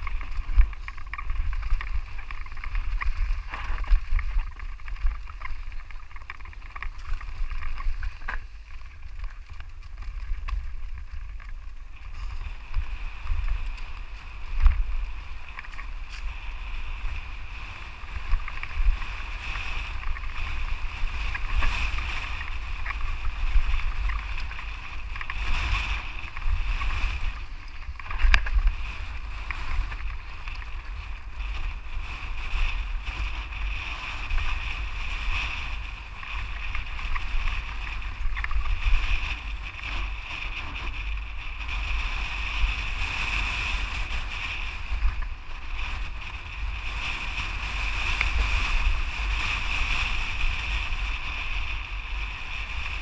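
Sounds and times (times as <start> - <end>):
wind and riding rumble: 0.0 - 53.0.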